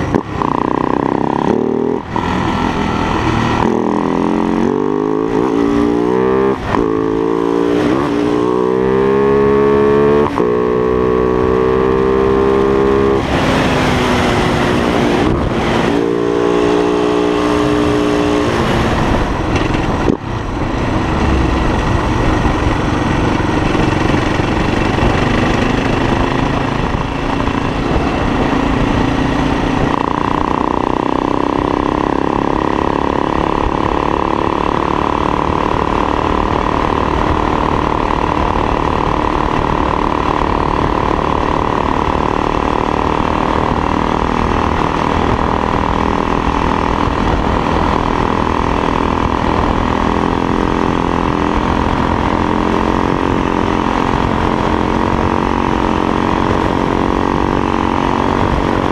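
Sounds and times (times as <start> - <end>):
motorcycle engine running: 0.0 - 58.9
wind buffeting microphone: 9.2 - 58.9.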